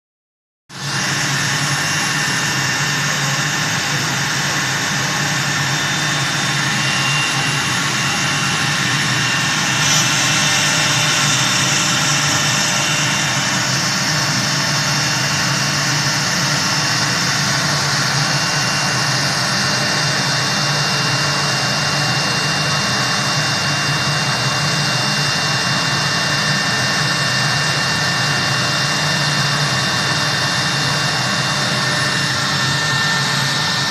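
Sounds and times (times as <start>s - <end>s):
router machine whining: 0.7s - 33.9s.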